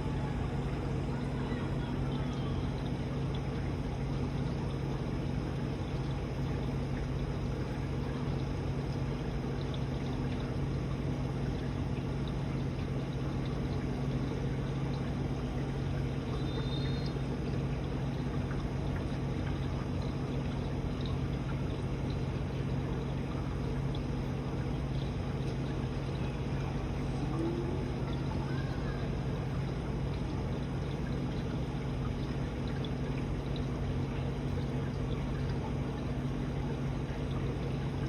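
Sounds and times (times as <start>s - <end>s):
pump hum: 0.0s - 38.0s
water pouring into tank: 0.0s - 38.0s.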